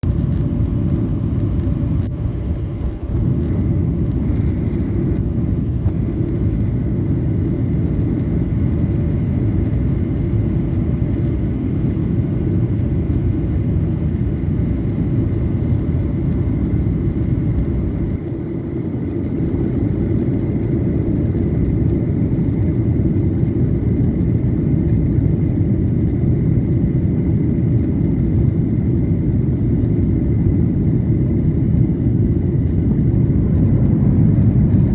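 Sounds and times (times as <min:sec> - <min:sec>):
high whine: 0:00.0 - 0:34.9
jet engine and airflow roar: 0:00.0 - 0:34.9.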